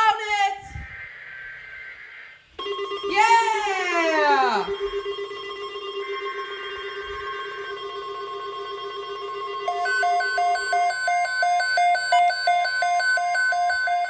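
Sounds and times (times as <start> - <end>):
buzzing alarm: 0.0 - 14.0
high warning tone: 0.0 - 14.0
rapid two-pitch beeping alarm: 0.0 - 14.0.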